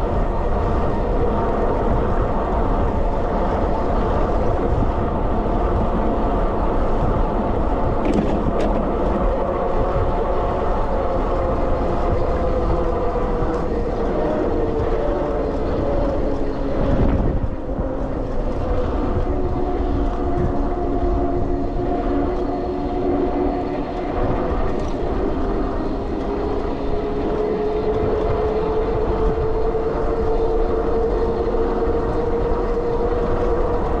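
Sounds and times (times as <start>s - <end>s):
electric hub motor whining: 0.0s - 34.0s
wind buffeting microphone: 0.0s - 34.0s.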